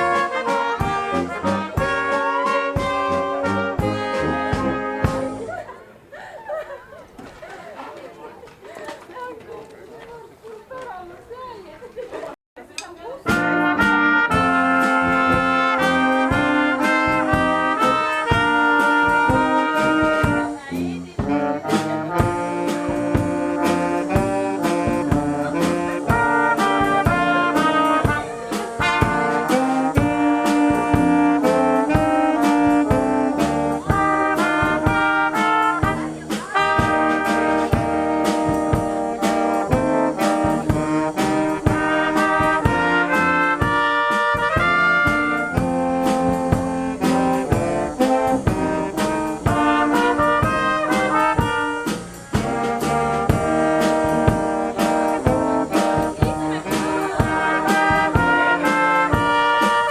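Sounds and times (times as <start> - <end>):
brass band playing: 0.0 - 6.0, 13.2 - 59.9.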